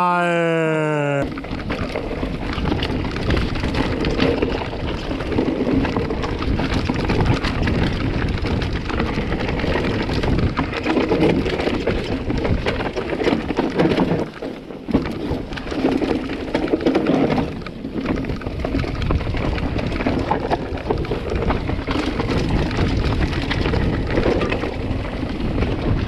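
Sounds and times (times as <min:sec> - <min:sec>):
bike rattling: 0:01.3 - 0:26.0.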